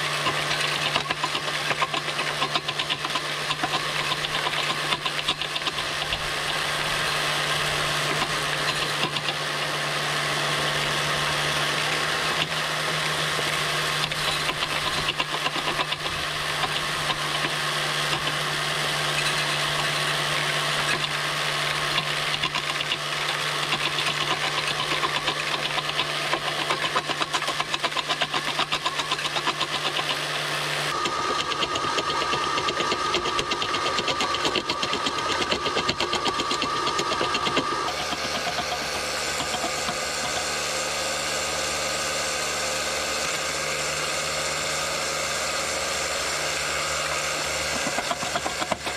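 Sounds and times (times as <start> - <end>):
motors humming: 0.0 - 48.9.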